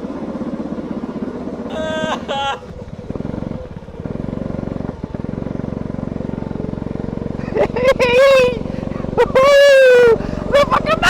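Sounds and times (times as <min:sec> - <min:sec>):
go-kart engine running hard: 0:00.0 - 0:11.0.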